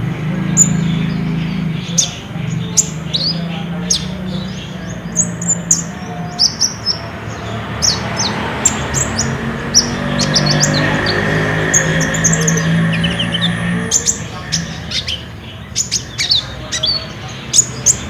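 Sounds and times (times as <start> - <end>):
bird chirping rapidly: 0.0 - 18.0.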